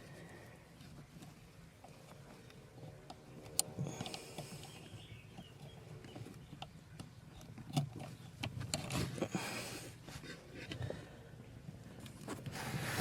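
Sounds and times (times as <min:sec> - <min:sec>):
hands rustling with wiring: 0:00.0 - 0:13.0.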